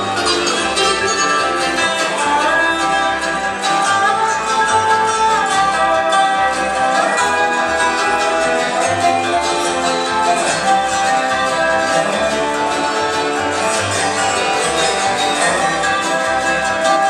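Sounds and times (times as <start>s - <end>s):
strummed and picked strings: 0.0s - 17.0s
upright bass: 0.0s - 17.0s.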